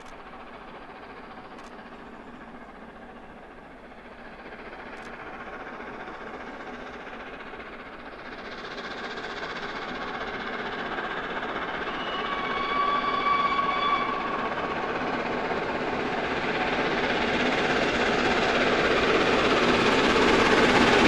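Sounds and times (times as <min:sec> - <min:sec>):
steam locomotive rushing: 0:00.0 - 0:21.0.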